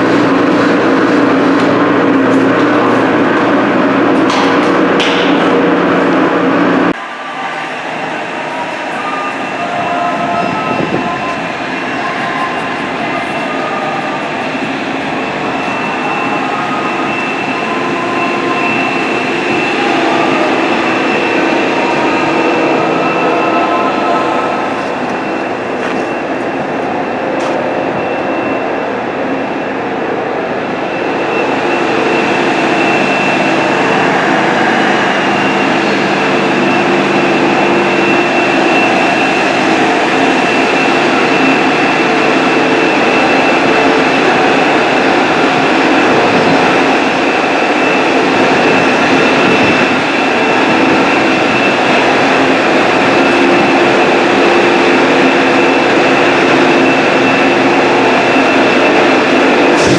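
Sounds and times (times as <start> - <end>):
industrial machinery running: 0.0 - 59.9.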